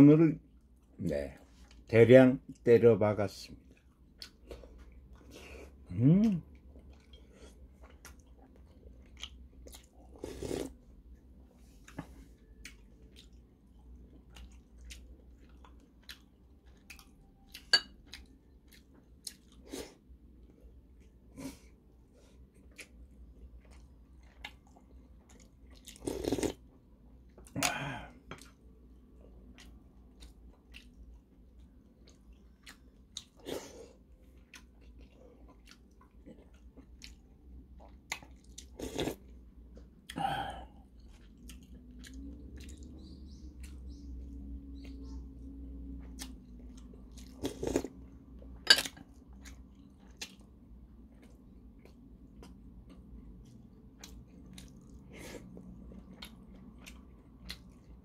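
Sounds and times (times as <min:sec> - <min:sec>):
chewing and mouth noises: 0:03.5 - 0:21.4, 0:22.3 - 0:58.0.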